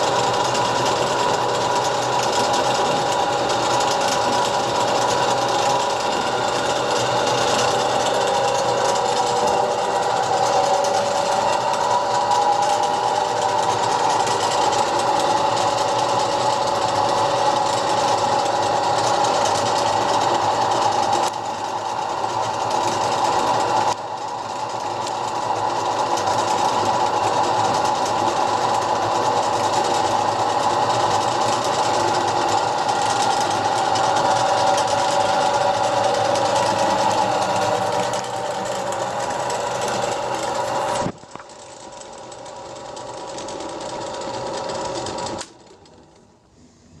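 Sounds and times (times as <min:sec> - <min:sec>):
lathe motor whirring: 0:00.0 - 0:47.0.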